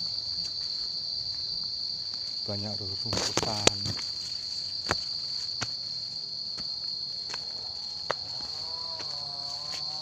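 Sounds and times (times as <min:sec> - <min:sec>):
footsteps on stony path: 0:00.0 - 0:02.4, 0:03.1 - 0:10.0
insects droning: 0:00.0 - 0:10.0.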